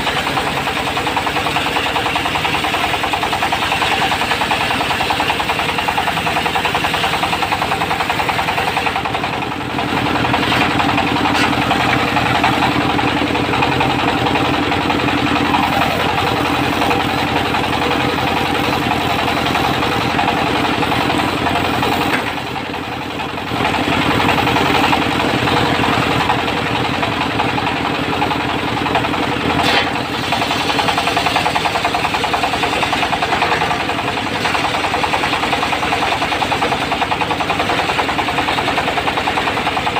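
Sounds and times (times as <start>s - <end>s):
saw blade whining through wood: 0.0s - 27.6s, 28.6s - 36.9s
diesel engine running hard: 0.0s - 39.9s.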